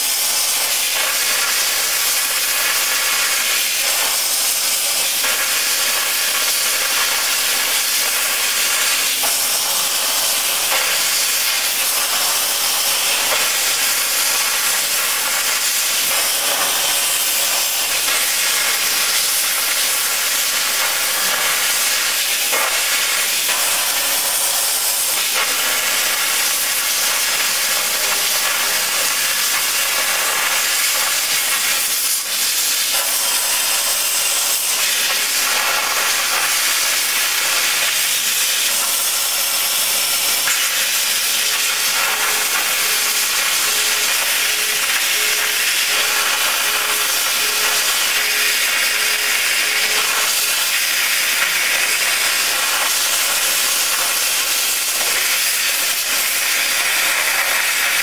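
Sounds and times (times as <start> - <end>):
plasma torch hissing: 0.0 - 58.0.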